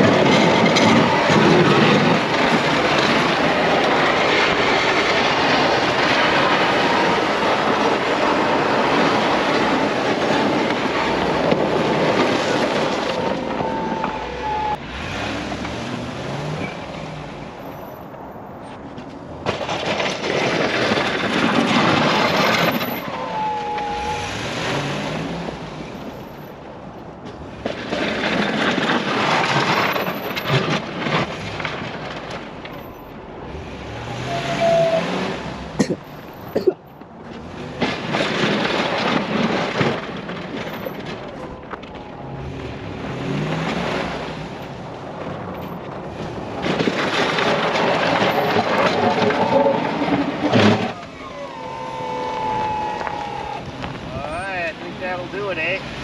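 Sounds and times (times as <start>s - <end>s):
truck engine revving: 0.0s - 18.6s, 19.4s - 56.0s
snowplow blade scraping pavement: 0.0s - 56.0s.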